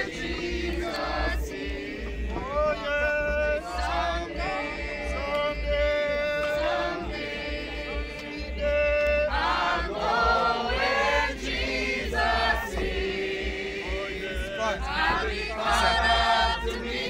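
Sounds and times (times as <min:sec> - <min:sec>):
group singing a hymn: 0:00.0 - 0:17.0.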